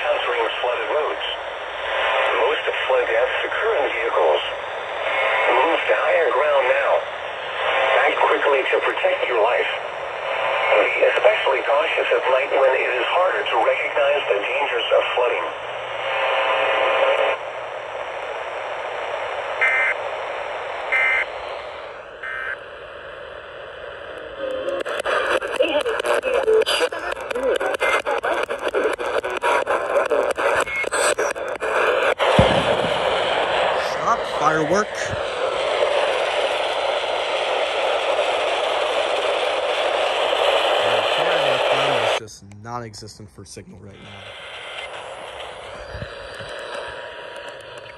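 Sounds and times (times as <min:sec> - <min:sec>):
radio static hiss: 0:00.0 - 0:47.9.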